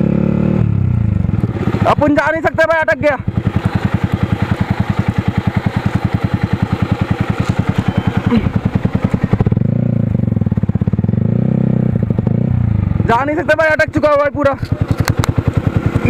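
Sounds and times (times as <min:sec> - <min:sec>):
motorcycle engine idling: 0:00.8 - 0:16.0.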